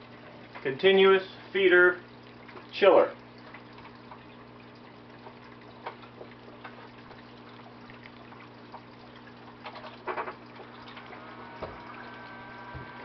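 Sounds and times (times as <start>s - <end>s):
low pump hum: 0.0s - 13.0s
water trickling and dripping: 0.0s - 13.0s.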